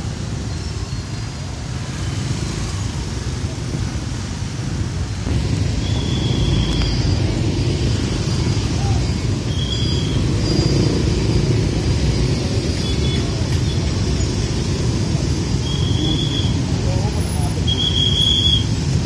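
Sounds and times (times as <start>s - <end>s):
motorbike engines rumbling: 0.0s - 19.0s.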